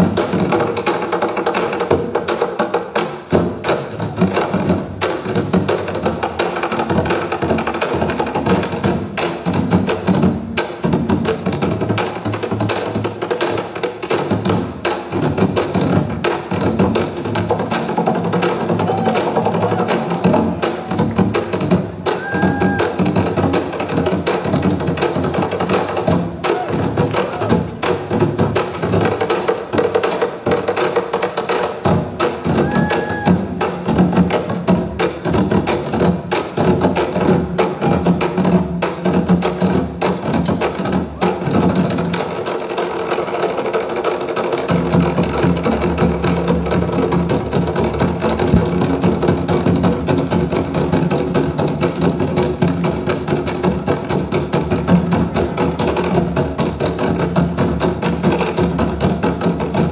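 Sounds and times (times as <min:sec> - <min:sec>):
barrel drums beating: 0:00.0 - 0:59.9.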